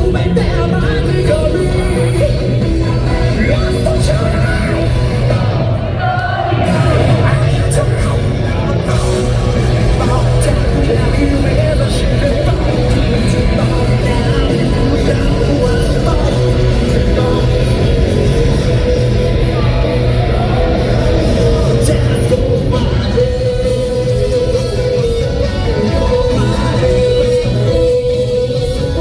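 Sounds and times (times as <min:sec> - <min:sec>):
crowd yelling along: 0:00.0 - 0:29.0
live rock band playing: 0:00.0 - 0:29.0
person singing: 0:00.0 - 0:29.0.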